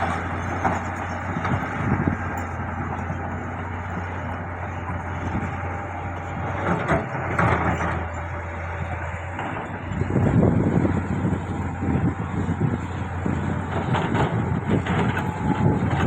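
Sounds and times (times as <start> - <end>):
diesel engine of earthmoving machine: 0.0 - 16.0.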